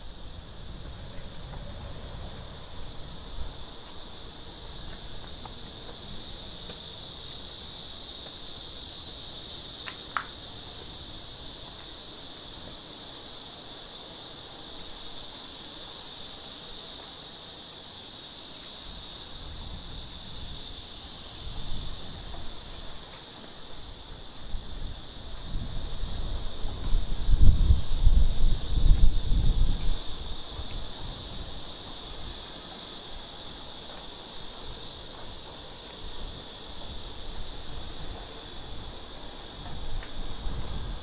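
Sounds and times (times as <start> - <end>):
insects chorus: 0.0 - 41.0.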